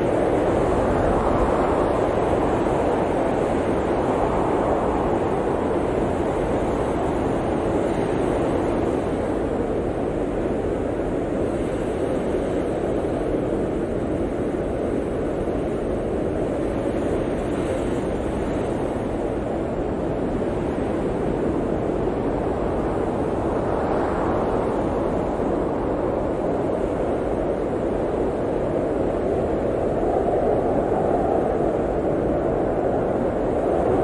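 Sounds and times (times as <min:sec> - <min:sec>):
blizzard wind rushing: 0:00.0 - 0:34.0.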